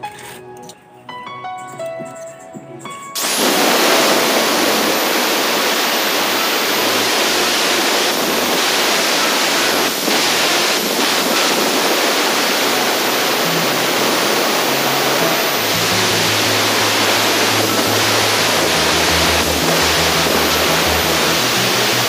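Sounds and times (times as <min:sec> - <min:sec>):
angle grinder cutting metal: 0:03.2 - 0:22.0.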